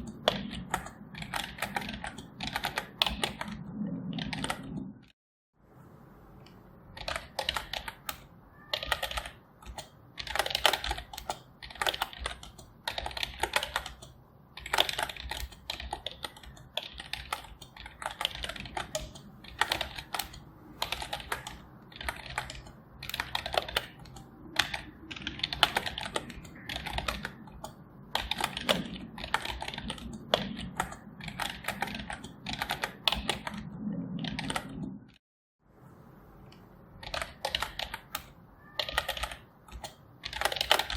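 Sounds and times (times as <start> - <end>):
keyboard typing: 0.0 - 5.2, 6.4 - 35.2, 36.4 - 40.9.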